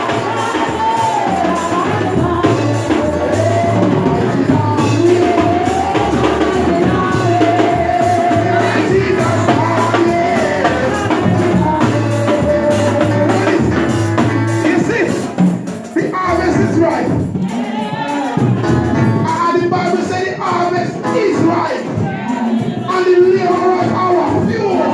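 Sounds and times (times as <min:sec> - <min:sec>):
bass notes: 0:00.0 - 0:24.9
drum beat: 0:00.0 - 0:24.9
voices singing gospel: 0:00.0 - 0:24.9.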